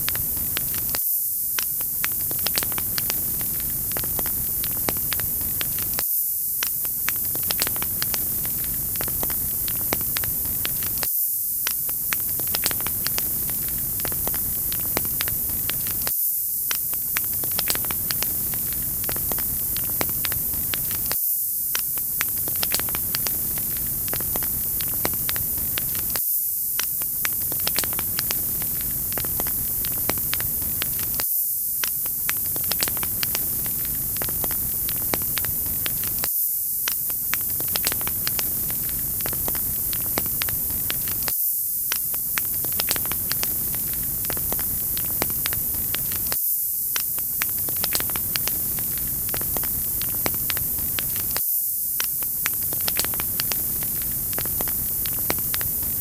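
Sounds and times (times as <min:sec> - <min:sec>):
wood fire crackling: 0:00.0 - 0:01.0, 0:01.6 - 0:06.0, 0:06.6 - 0:16.1, 0:16.7 - 0:26.2, 0:26.8 - 0:31.2, 0:31.8 - 0:41.3, 0:42.0 - 0:51.4, 0:52.0 - 0:56.0.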